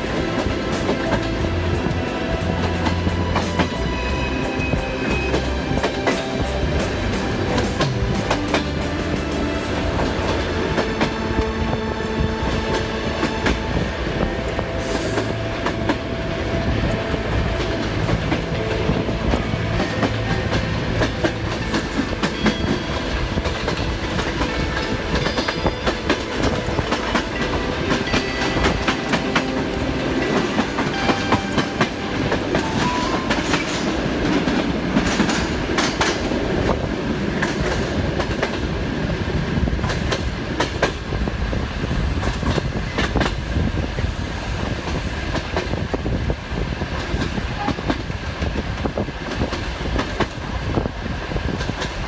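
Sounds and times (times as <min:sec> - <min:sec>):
train rushing: 0:00.0 - 0:52.0.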